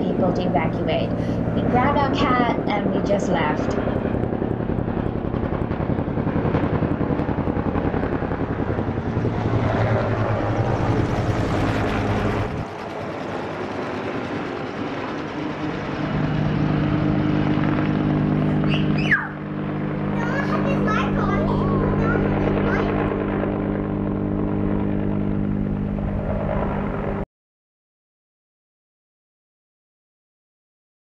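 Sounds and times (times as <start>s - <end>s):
helicopter rotor blades chopping: 0.0s - 27.2s
steady helicopter drone: 0.0s - 27.3s.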